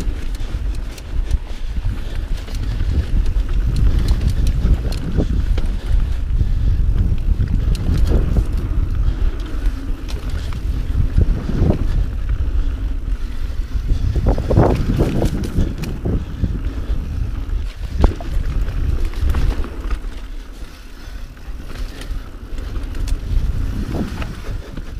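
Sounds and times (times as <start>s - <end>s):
bike rattling and knocking: 0.0s - 24.9s
tyres rumbling on dirt trail: 0.0s - 24.9s
wind buffeting microphone: 0.0s - 24.9s.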